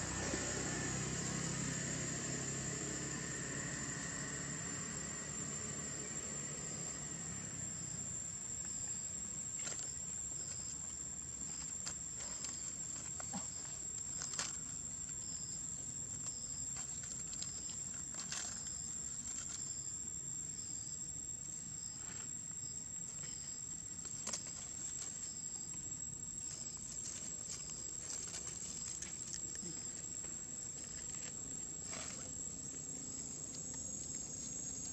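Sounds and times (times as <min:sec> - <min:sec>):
insects droning and chirping: 0:00.0 - 0:34.9.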